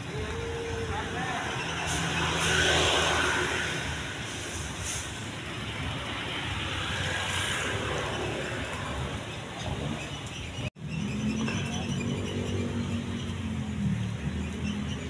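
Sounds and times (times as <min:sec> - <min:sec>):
hum of motor traffic: 0:00.0 - 0:15.0.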